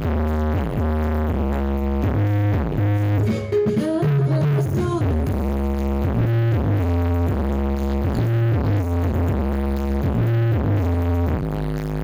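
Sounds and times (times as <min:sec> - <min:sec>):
deep bass notes: 0:00.0 - 0:03.4, 0:04.0 - 0:12.0
electronic dance music: 0:00.0 - 0:12.0.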